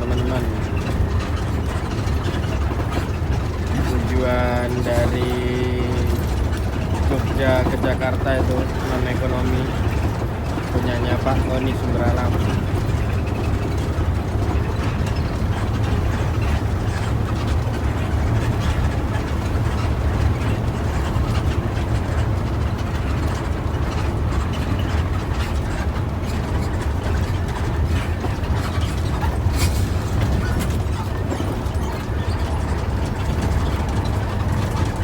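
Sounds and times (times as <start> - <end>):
bus engine and road drone: 0.0 - 35.0
cabin rattling and clicking: 0.0 - 35.0.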